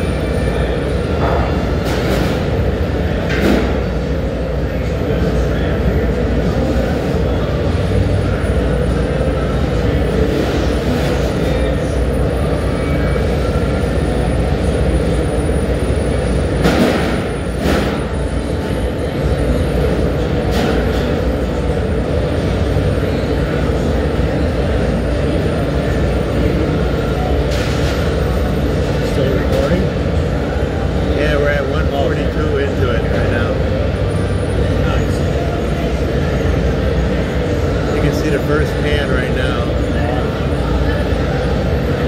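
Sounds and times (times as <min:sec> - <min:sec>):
furnace low rumble: 0:00.0 - 0:42.0.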